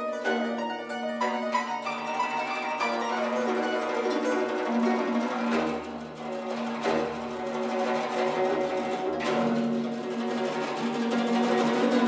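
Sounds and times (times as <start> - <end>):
zither plucked strings: 0.0 - 12.0.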